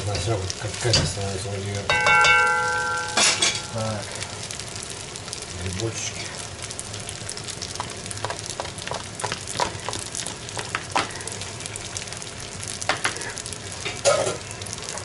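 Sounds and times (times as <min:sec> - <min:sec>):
food frying and sizzling: 0:00.0 - 0:15.0.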